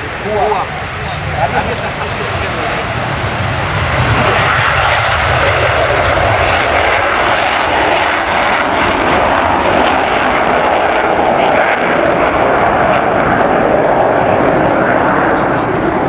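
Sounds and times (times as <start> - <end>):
airplane engine noise: 0.0 - 16.0.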